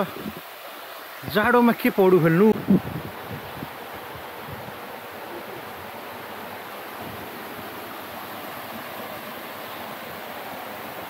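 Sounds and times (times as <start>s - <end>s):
stream water rushing down waterfall: 0.0s - 11.0s.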